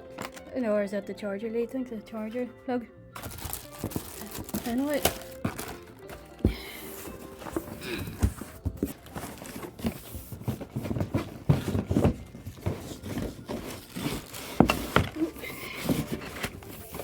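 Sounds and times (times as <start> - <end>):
vacuum parts being unpacked: 0.0 - 0.5, 3.2 - 17.0.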